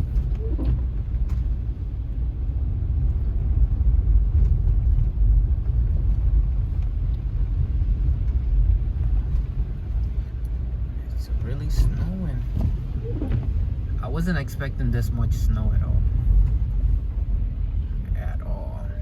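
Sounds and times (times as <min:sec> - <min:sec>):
car engine and tyre road noise: 0:00.0 - 0:19.0.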